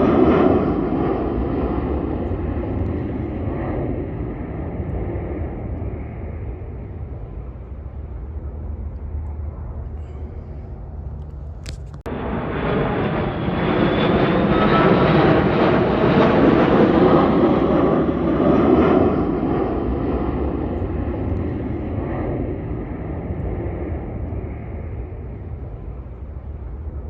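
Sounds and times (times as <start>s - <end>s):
airplane flying low past: 0.0s - 27.0s.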